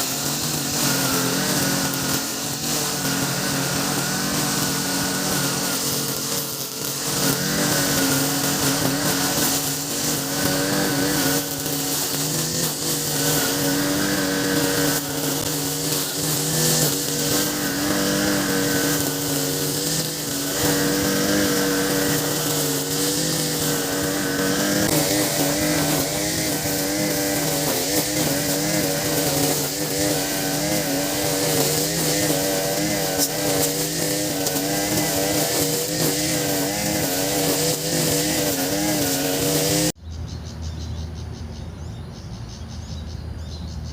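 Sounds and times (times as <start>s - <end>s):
brush cutter cutting grass: 0.0s - 40.0s.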